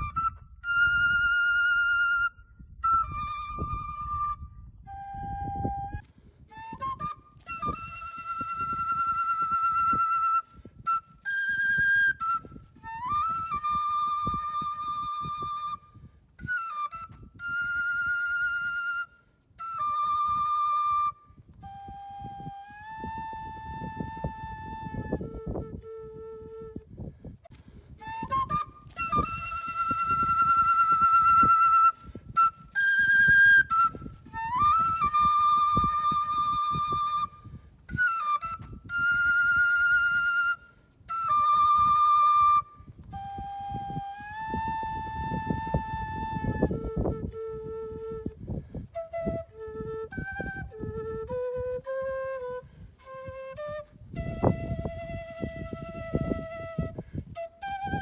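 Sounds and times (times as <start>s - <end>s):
wooden flute notes: 0.0s - 58.0s.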